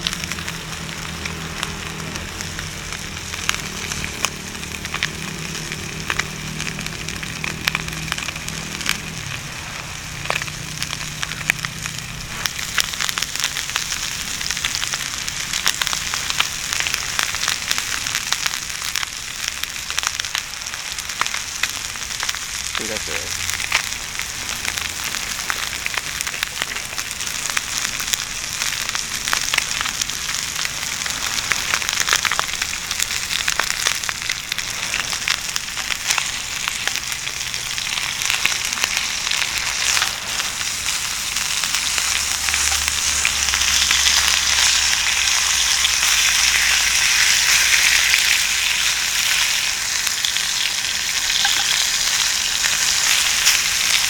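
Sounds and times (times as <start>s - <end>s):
crackling pops: 0.0s - 54.0s
food sizzling in a hot pan: 0.0s - 54.0s.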